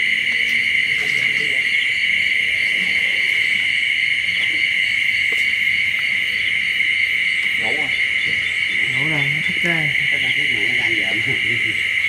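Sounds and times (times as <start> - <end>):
crickets trilling: 0.0 - 12.0
faint pulsing chirp: 0.0 - 12.0.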